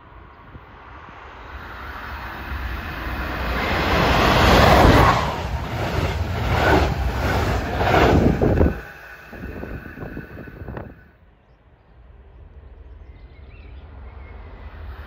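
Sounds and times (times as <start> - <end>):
train passing on track: 0.0 - 15.0.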